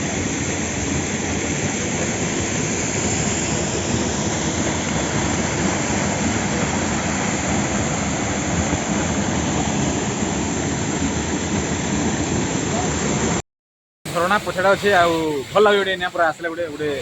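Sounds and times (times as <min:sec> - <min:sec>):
waterfall rushing: 0:00.0 - 0:13.4, 0:14.1 - 0:17.0.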